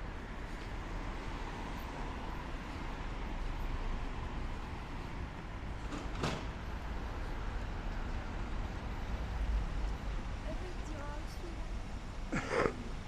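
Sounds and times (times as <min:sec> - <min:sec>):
traffic noise with low rumble: 0:00.0 - 0:13.0.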